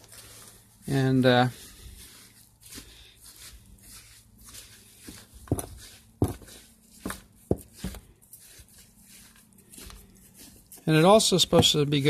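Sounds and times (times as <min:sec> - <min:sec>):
spoon stirring sawdust: 0:00.0 - 0:12.0.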